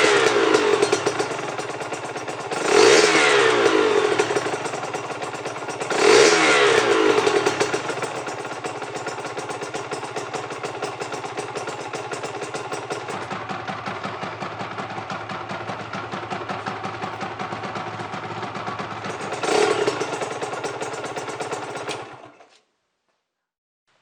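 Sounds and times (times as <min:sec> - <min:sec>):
two-stroke motorcycle engine revving: 0:00.0 - 0:22.4.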